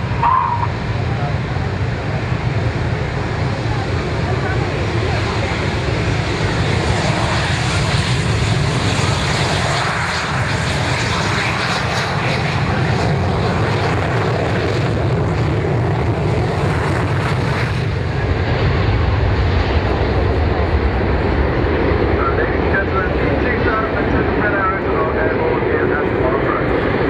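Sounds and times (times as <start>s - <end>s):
jet engines roaring on takeoff: 0.0s - 27.0s.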